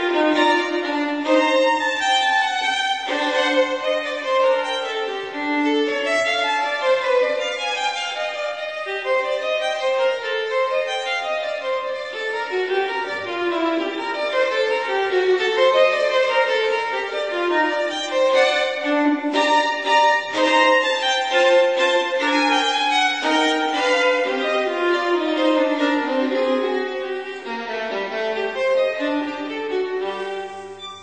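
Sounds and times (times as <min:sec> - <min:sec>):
violin melody: 0:00.0 - 0:31.0.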